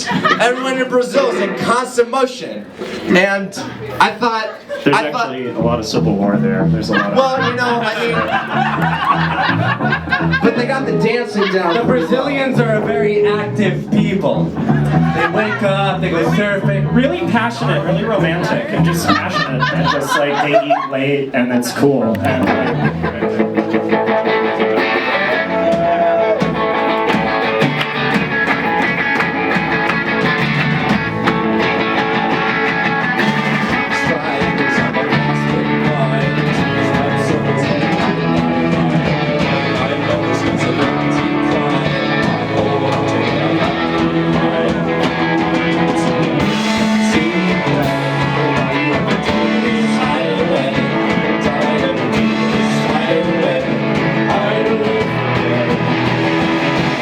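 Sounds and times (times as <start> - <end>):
bass guitar: 5.4 - 20.8, 21.4 - 57.0
electric guitars: 5.6 - 20.8, 21.6 - 57.0
drum kit: 6.0 - 20.2, 22.2 - 57.0.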